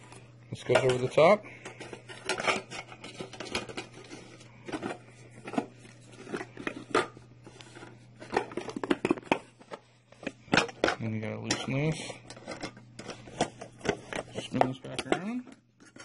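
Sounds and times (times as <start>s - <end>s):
metal pots clinking and scraping: 0.6s - 16.0s.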